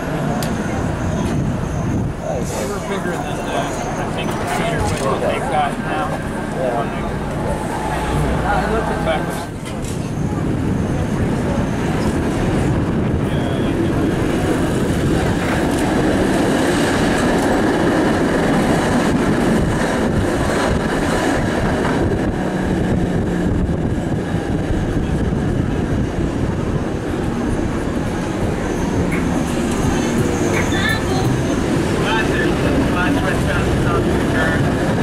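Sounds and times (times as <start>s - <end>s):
streetcar wheels rumbling on rails: 0.0s - 35.0s.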